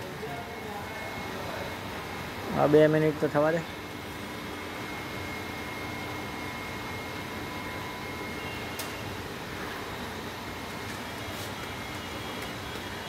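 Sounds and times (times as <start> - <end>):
cooling unit humming: 0.0 - 13.0
faint whining tones: 0.0 - 13.0.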